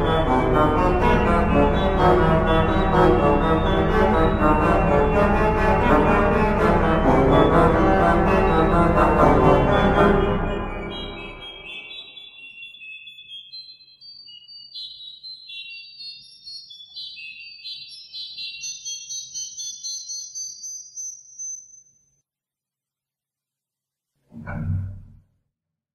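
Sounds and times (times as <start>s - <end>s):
pipe organ high notes: 0.0s - 21.2s.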